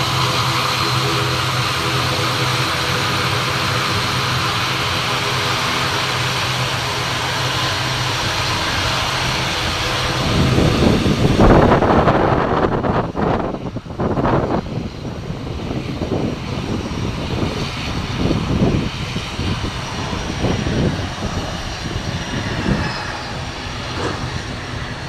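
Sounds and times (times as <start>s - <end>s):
rough rumbling buffeting microphone: 0.0s - 25.0s
turboprop engines droning: 0.0s - 25.0s.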